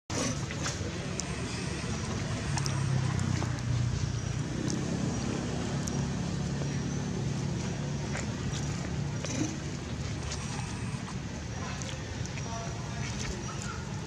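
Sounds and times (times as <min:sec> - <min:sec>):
engine humming: 0:00.1 - 0:14.0.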